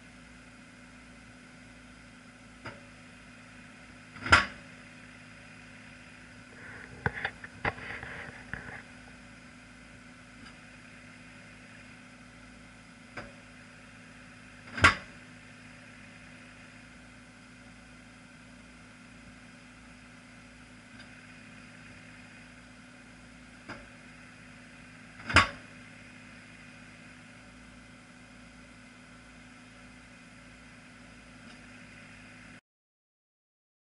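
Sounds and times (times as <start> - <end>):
engine running steadily: 0.0 - 32.6.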